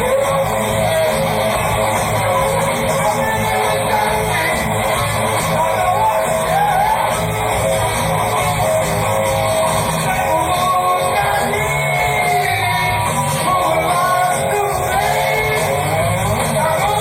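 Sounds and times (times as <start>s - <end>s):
electric guitar sustained notes: 0.0s - 17.0s
rock band playing: 0.0s - 17.0s.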